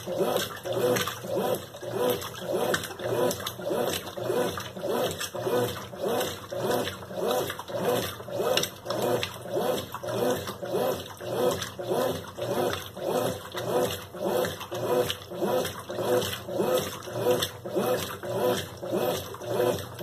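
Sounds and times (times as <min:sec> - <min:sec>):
washing machine churning: 0:00.0 - 0:20.0.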